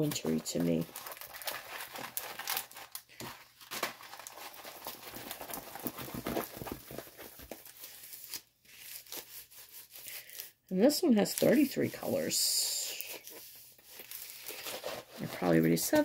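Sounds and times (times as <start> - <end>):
plastic crinkling and rustling: 0.0 - 16.0.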